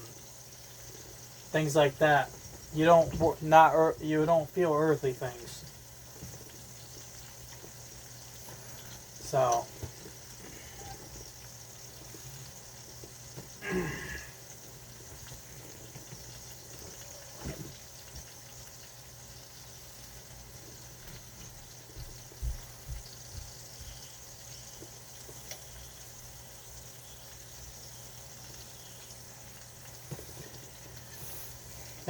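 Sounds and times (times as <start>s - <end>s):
water boiling in a pot: 0.0s - 32.0s.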